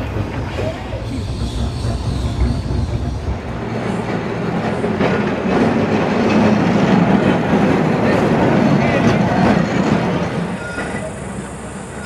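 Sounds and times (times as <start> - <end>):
electric tram rumbling on rails: 0.0 - 12.0.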